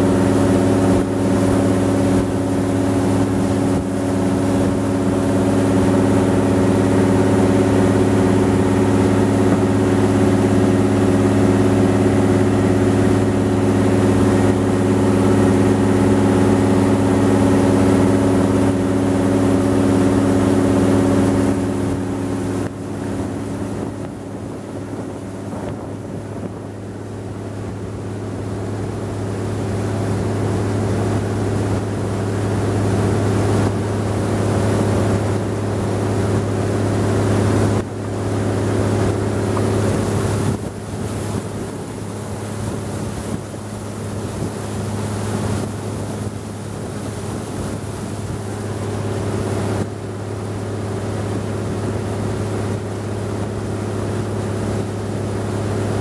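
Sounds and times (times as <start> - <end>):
boat engine droning: 0.0 - 56.0
wake rushing along hull: 0.0 - 56.0.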